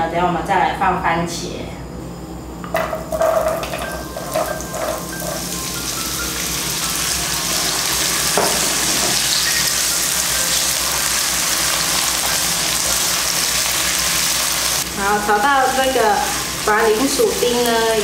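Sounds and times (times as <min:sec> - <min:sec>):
potatoes sizzling in oil: 0:02.8 - 0:18.0.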